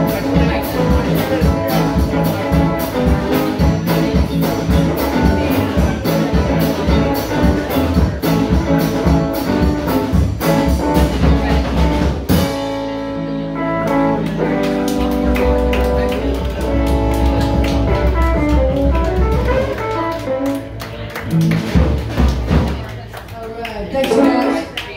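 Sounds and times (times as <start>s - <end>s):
drum kit playing a steady beat: 0.0s - 23.1s
electric guitars: 0.0s - 23.2s.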